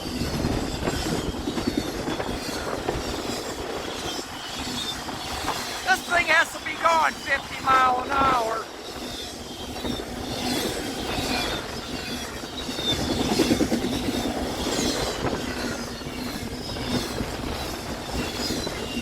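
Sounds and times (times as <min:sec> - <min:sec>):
freight train passing: 0:00.0 - 0:19.0.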